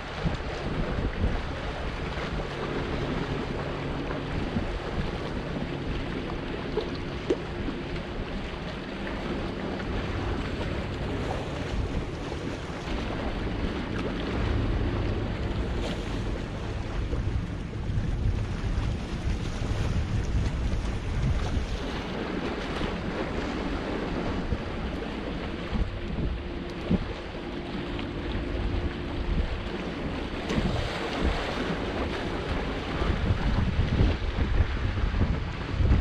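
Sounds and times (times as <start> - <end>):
waves washing against boulders: 0.0 - 36.0
wind buffeting microphone: 0.0 - 36.0.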